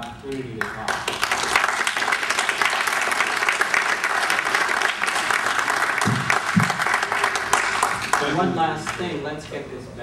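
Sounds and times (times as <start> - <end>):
audience applauding: 0.3 - 9.1.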